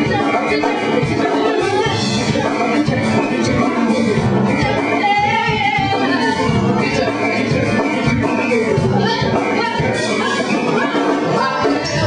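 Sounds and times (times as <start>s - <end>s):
swing band with horns playing: 0.0s - 12.0s.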